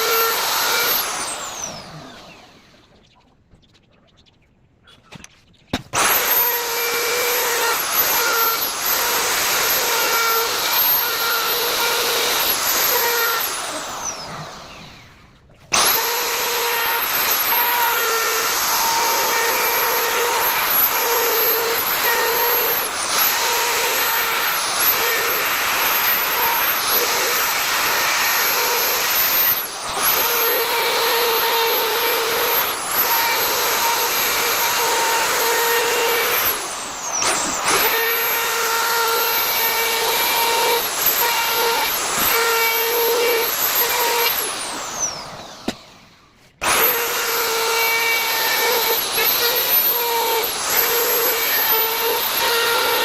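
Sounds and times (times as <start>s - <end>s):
electric wood router whining: 0.0s - 3.0s, 5.9s - 53.0s.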